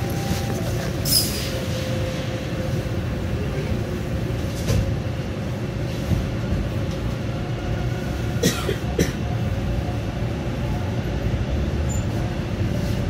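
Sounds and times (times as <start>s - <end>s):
subway car rumble: 0.0s - 13.0s.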